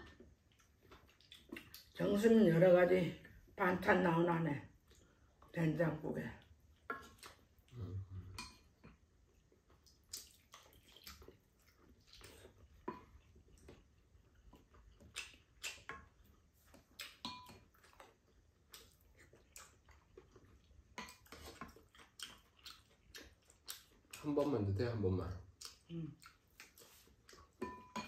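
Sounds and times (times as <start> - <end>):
faint chewing: 0.0 - 2.0, 4.7 - 5.6, 6.4 - 28.0.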